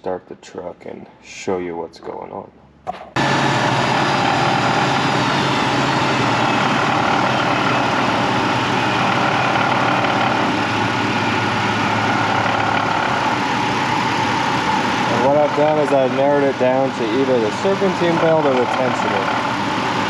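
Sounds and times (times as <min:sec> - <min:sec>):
car engine running: 0:03.2 - 0:20.0
steady whining belt: 0:03.2 - 0:20.0.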